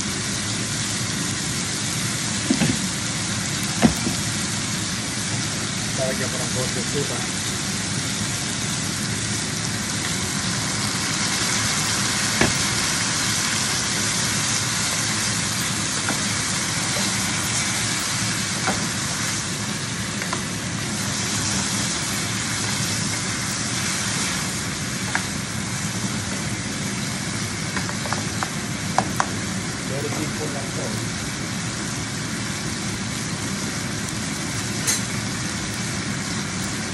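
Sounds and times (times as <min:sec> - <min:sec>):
food sizzling in a frying pan: 0:00.0 - 0:36.9.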